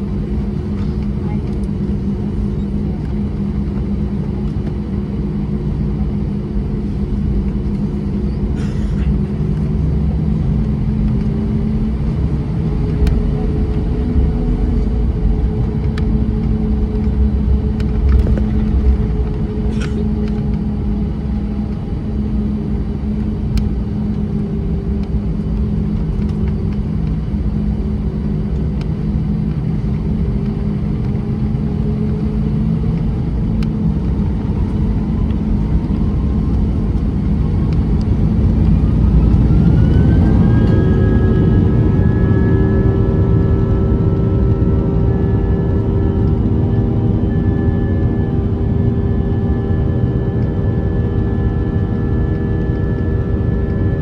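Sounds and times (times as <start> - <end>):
airplane cabin rumble: 0.0 - 54.0
jet engine whine rising: 0.0 - 54.0.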